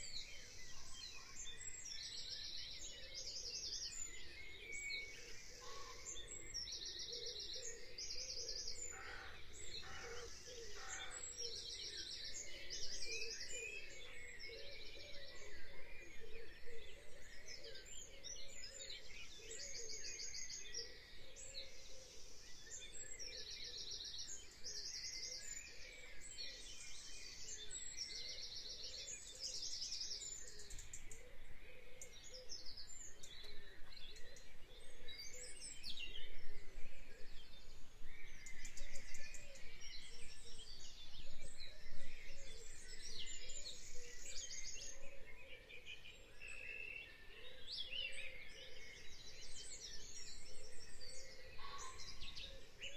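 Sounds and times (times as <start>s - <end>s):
woodland birds trilling: 0.0s - 52.9s.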